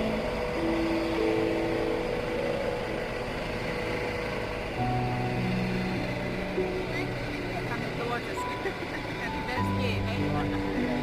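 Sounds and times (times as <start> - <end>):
helicopter engine: 0.0 - 11.0.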